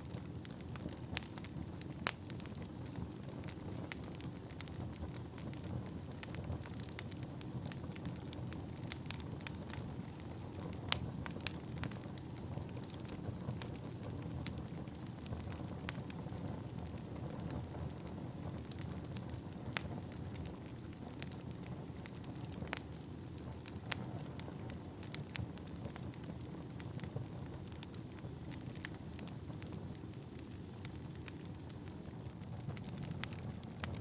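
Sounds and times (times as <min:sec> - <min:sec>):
flames rumbling: 0:00.0 - 0:34.0
logs crackling and popping: 0:00.0 - 0:34.0.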